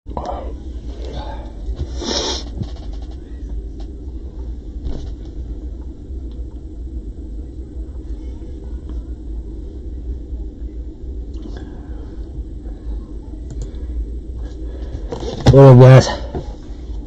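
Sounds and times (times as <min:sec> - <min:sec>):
low background rumble: 0:00.1 - 0:17.0.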